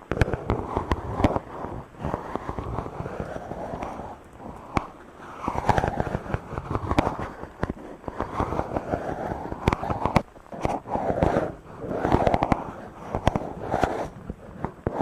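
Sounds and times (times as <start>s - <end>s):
fingers rubbing on microphone: 0.0s - 15.0s.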